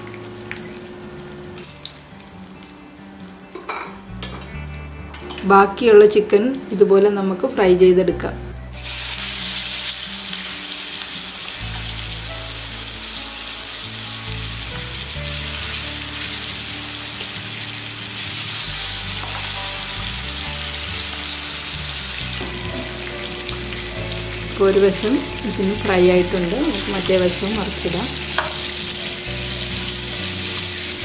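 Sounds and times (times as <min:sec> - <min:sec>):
chicken sizzling in hot oil: 0:00.0 - 0:04.1, 0:08.8 - 0:31.0.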